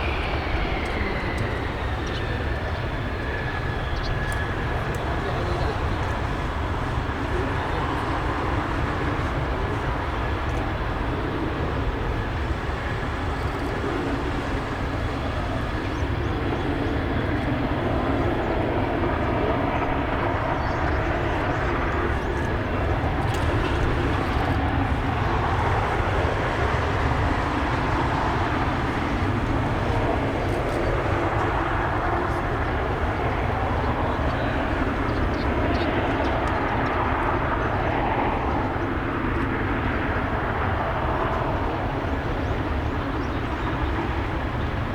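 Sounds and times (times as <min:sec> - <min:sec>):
jet engine running: 0:00.0 - 0:44.9.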